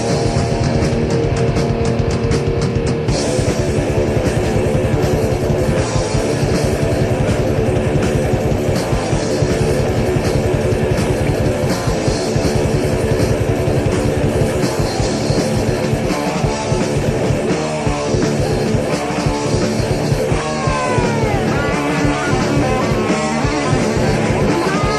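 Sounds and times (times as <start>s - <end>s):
distorted electric guitars: 0.0s - 24.9s
fast driving drums: 0.0s - 24.9s.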